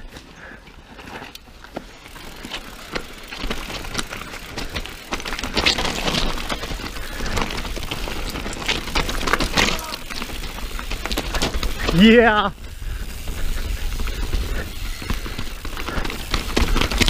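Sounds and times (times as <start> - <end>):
bike tyres on dirt trail: 0.0 - 17.0
bike knocks and rattles: 1.5 - 17.0.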